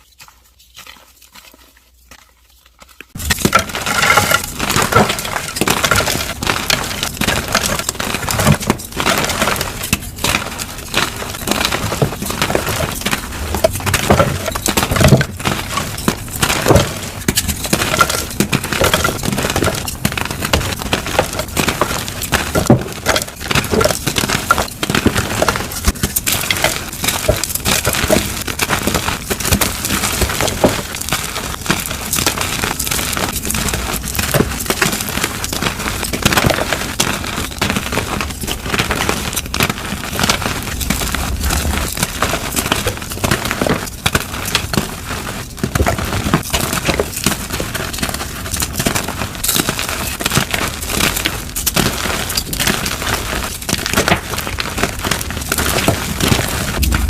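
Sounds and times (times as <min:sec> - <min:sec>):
chalk blocks crushed and crumbling: 0:03.0 - 0:57.0.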